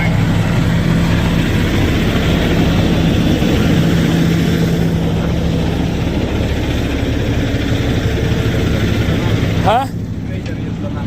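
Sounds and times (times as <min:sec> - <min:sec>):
heavy truck engine droning: 0:00.0 - 0:11.0
road noise: 0:00.0 - 0:11.0.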